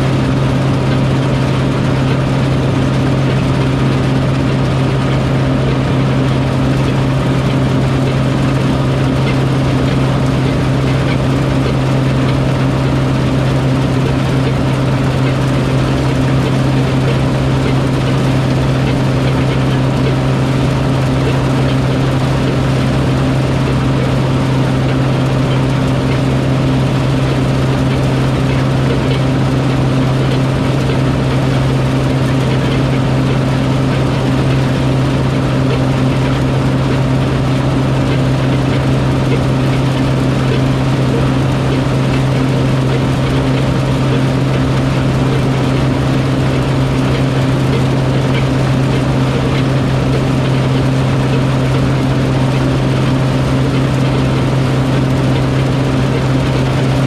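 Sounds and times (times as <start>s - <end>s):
farm machinery engine droning: 0.0s - 57.0s.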